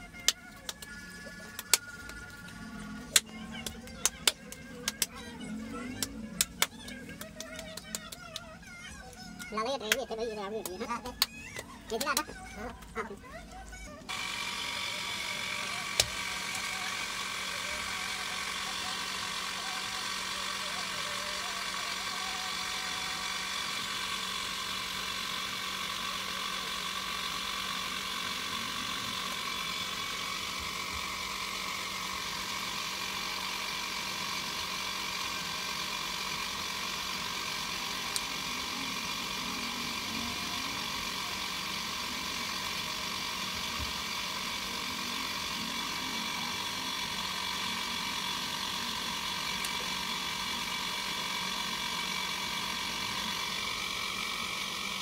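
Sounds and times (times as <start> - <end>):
potter's wheel whirring: 0.0 - 55.0.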